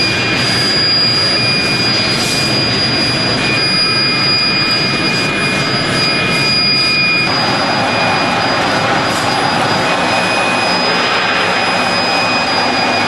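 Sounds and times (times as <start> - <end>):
loud machine noise with whine: 0.0 - 13.0.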